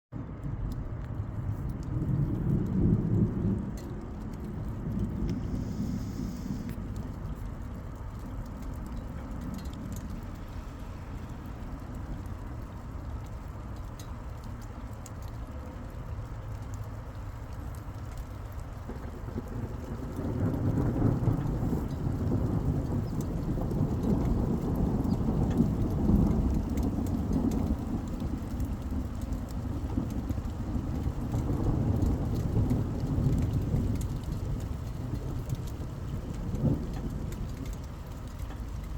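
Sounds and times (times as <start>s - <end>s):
constant low rumble: 0.1s - 38.9s
steady rainfall: 0.1s - 38.9s.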